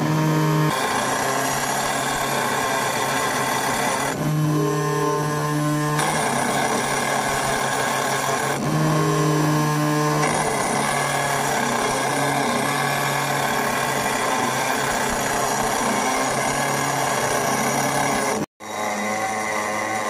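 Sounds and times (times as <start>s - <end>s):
engraving machine cutting stone: 0.0s - 20.0s.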